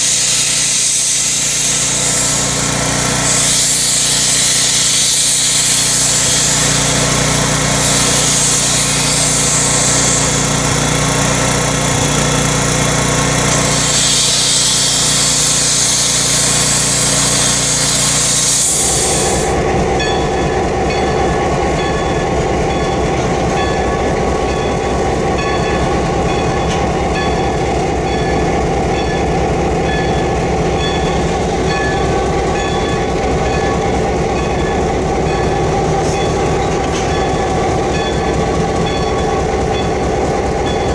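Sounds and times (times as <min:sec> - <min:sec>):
distant locomotive drone: 0:00.0 - 0:40.9
steam locomotive hissing: 0:00.0 - 0:40.9.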